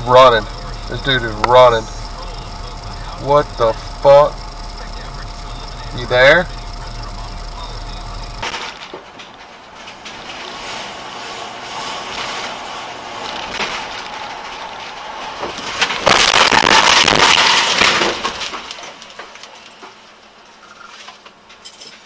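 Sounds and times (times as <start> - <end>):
car crash: 0.0 - 22.0
car road noise: 0.0 - 22.0.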